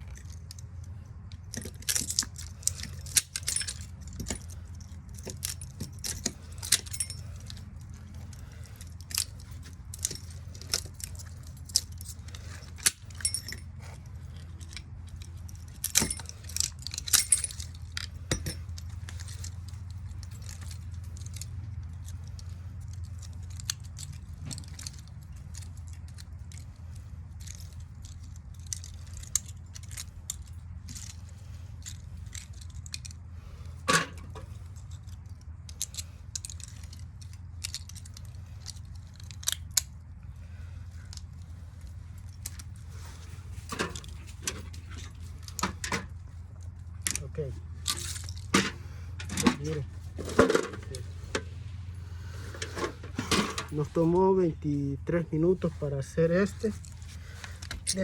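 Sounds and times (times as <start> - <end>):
metal parts clinking and scraping: 0.0 - 58.0
steady low hum: 0.0 - 58.0.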